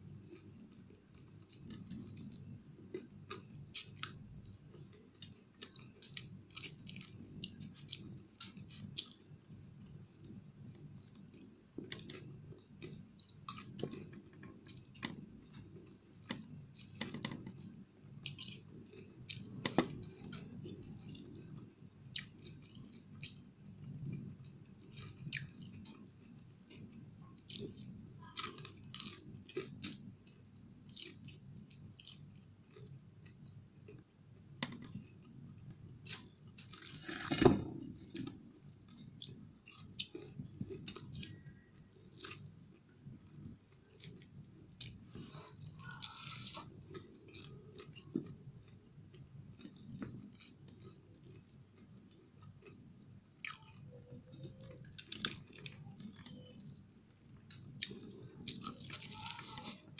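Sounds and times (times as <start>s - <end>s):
person chewing: 0.2s - 10.4s, 11.0s - 59.9s.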